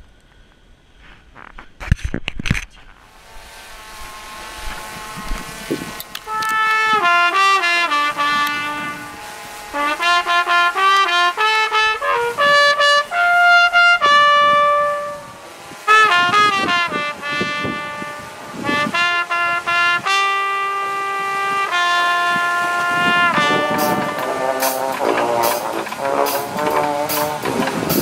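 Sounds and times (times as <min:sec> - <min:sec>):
trumpet melody: 0:03.0 - 0:28.0
marching band brass playing: 0:03.2 - 0:28.0.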